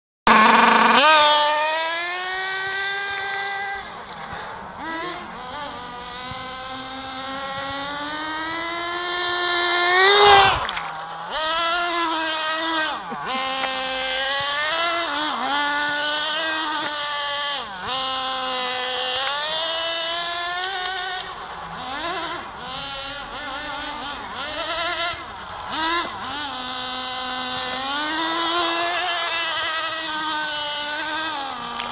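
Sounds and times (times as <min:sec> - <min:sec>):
toy car engine revving: 0:00.3 - 0:31.9.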